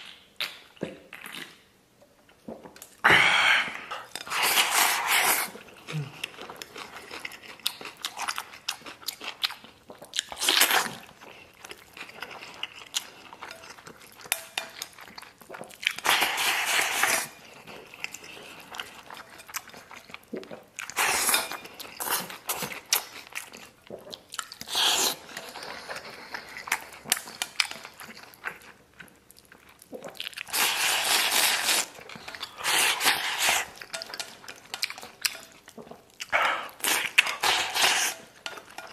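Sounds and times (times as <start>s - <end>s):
wet chewing: 3.7s - 38.9s.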